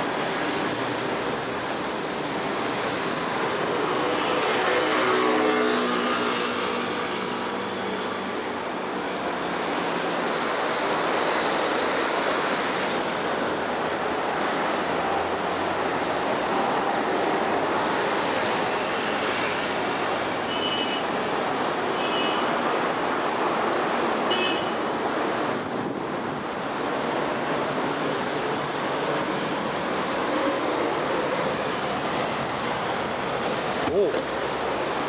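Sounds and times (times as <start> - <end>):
city road traffic: 0.0 - 35.0.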